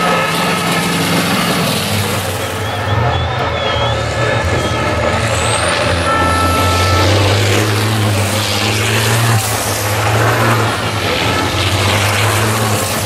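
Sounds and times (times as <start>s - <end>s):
broad rushing noise: 0.0s - 13.0s
diesel truck engines running hard: 0.0s - 13.0s.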